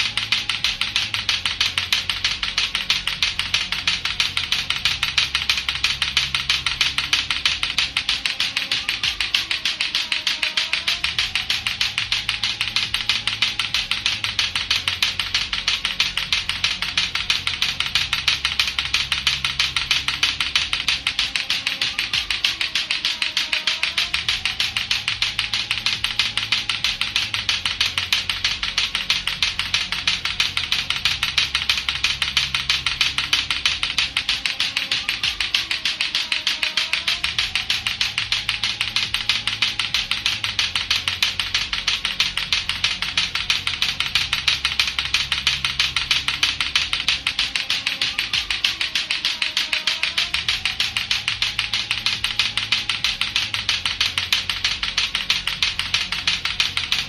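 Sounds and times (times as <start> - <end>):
clacker balls clacking: 0.0 - 57.0
looping music with bass: 0.0 - 57.0.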